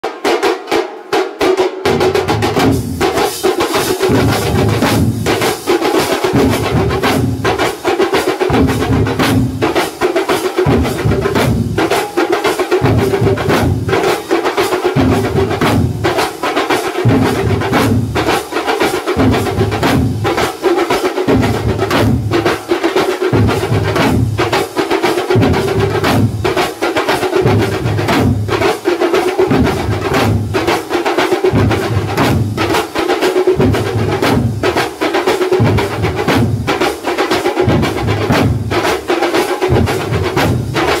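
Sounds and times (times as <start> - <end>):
percussion ensemble drumming: 0.0 - 41.0.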